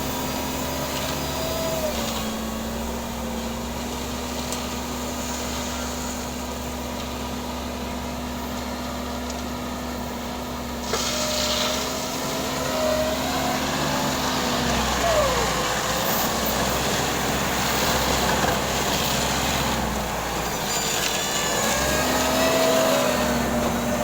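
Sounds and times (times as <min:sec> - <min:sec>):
heavy machinery engine humming: 0:00.0 - 0:24.0.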